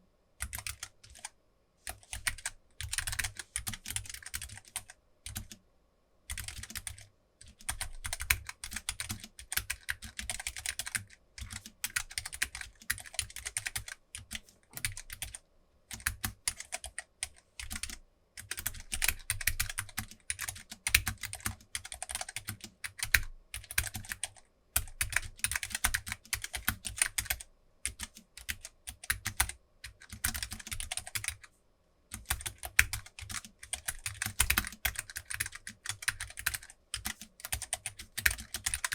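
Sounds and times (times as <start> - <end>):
mechanical keyboard typing: 0.4 - 1.3, 1.9 - 5.6, 6.3 - 31.5, 32.1 - 38.9.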